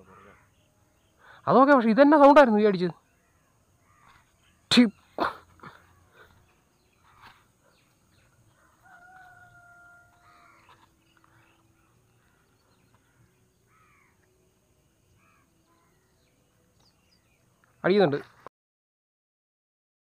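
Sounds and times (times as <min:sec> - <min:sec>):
distant bird calls: 0:00.0 - 0:18.4.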